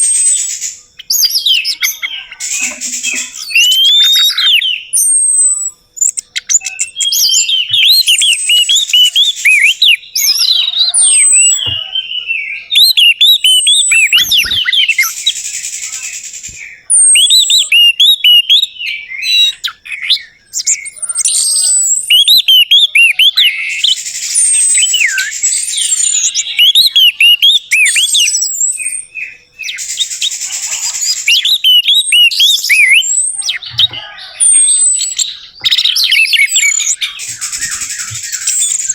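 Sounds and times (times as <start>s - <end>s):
harsh hissing bird notes: 0.0s - 12.0s, 12.6s - 18.4s, 23.4s - 38.9s.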